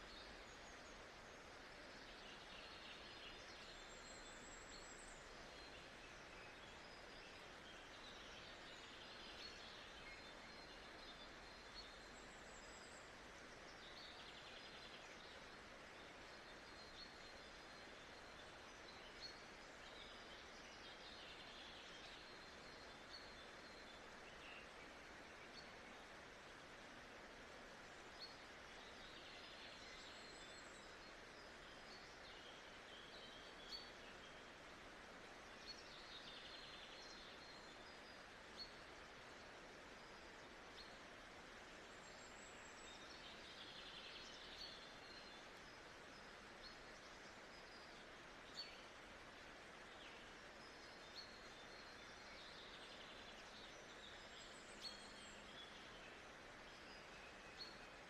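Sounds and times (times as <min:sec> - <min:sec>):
soft steady hiss: 0:00.0 - 0:58.0.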